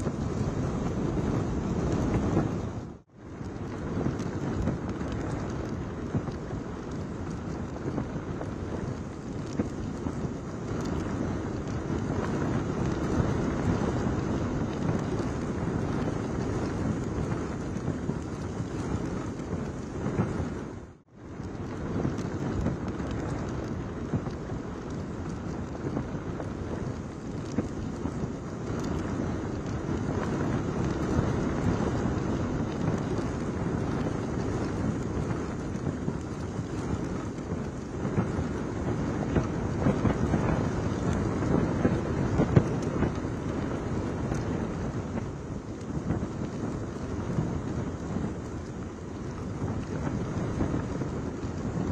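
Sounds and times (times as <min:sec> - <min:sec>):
choppy water: 0:00.0 - 0:51.9
gusty wind buffeting microphone: 0:00.0 - 0:51.9
rain: 0:00.0 - 0:51.9.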